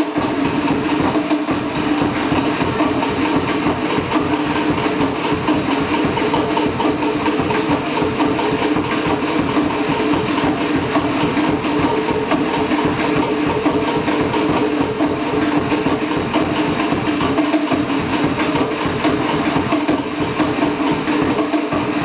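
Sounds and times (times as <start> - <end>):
fast steady drumming: 0.0 - 22.0.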